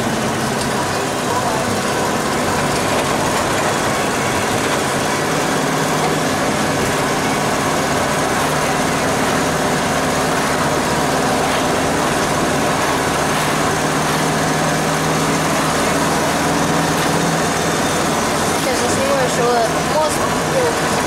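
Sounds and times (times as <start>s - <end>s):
road noise: 0.0s - 21.0s
van diesel engine running: 0.0s - 21.0s.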